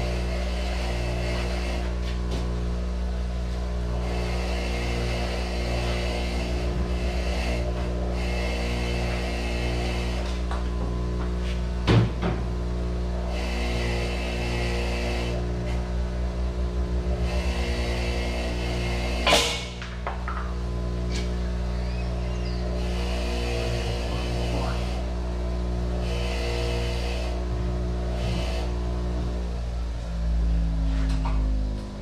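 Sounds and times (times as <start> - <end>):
pump electric hum: 0.0 - 32.0.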